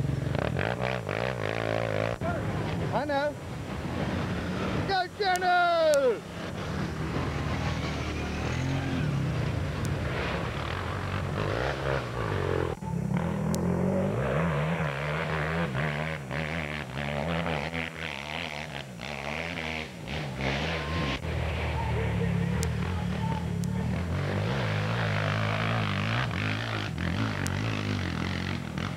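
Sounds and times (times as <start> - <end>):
dirt bike engines revving: 0.0 - 28.9.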